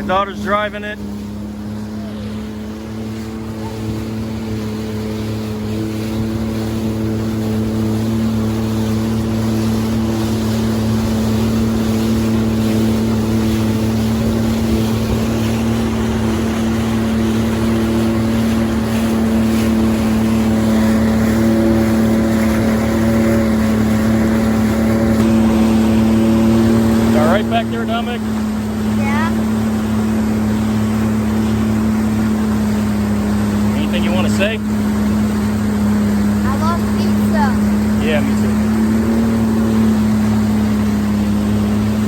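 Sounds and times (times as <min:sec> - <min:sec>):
water noise: 0:00.0 - 0:42.0
watercraft engine humming: 0:00.0 - 0:42.0.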